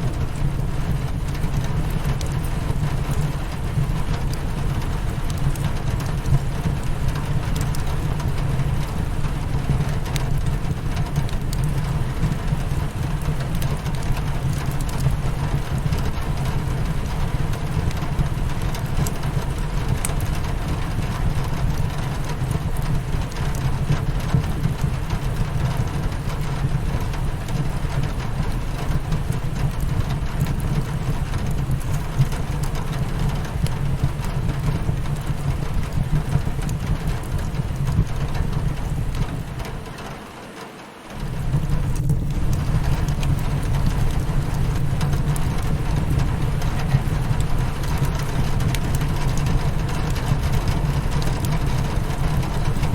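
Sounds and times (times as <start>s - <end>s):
wood fire crackling: 0.0s - 40.4s, 41.0s - 52.9s
rain hitting a window: 0.0s - 52.9s.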